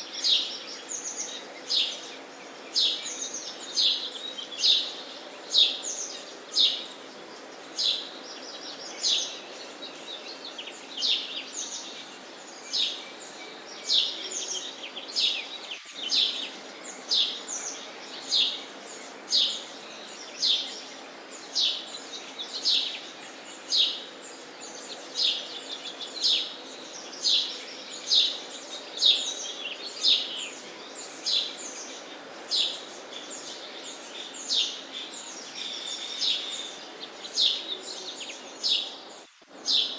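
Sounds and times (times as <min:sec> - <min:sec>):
faint background noise: 0:00.0 - 0:39.9
sparrows chirping: 0:00.0 - 0:39.9.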